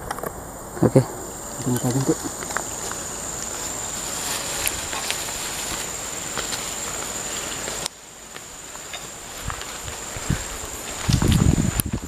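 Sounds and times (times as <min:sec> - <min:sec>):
rustling through undergrowth: 0:00.0 - 0:12.0
light footsteps: 0:01.4 - 0:12.0.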